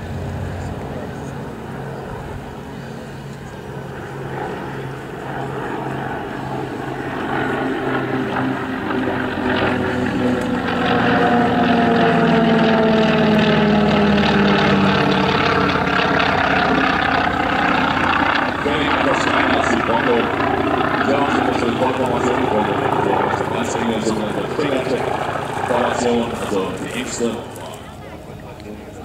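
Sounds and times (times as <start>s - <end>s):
propeller aircraft flying past: 0.0s - 29.0s.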